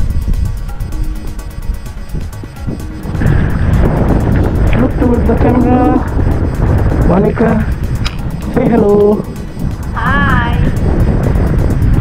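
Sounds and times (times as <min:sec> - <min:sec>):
background music: 0:00.0 - 0:12.0
loud low rumble: 0:00.0 - 0:12.0.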